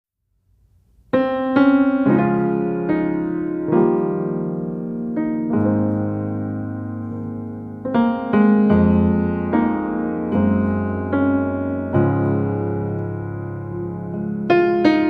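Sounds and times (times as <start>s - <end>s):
gentle piano music: 1.1s - 15.0s.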